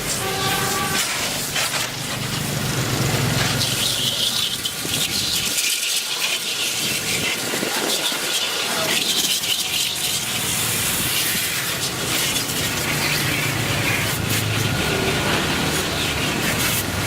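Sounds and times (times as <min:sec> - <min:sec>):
hissing and rubbing while cleaning: 0:00.0 - 0:17.0.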